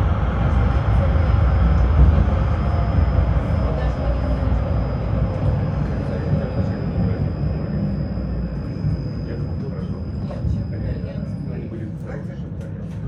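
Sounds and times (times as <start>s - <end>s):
faint high whine: 0.0s - 12.5s
tram wheels rumbling on rails: 0.0s - 13.0s.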